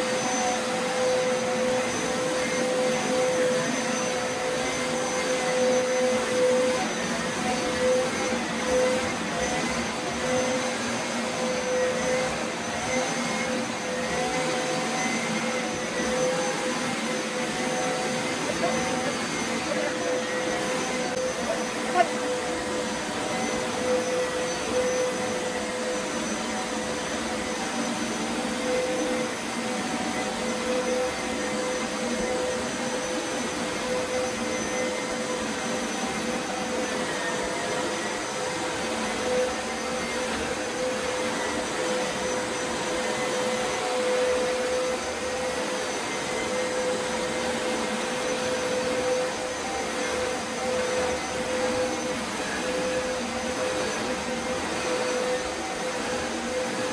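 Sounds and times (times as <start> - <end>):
carpet shampooer motor whine: 0.0 - 56.9.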